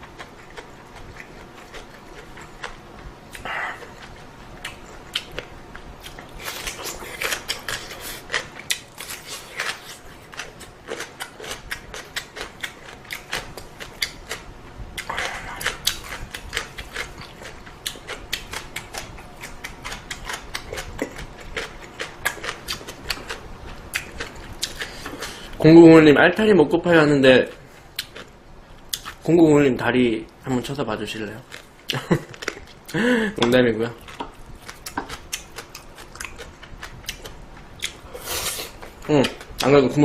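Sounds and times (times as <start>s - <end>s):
chewing with wet mouth clicks: 0.0s - 25.3s, 28.0s - 29.2s, 31.5s - 38.0s.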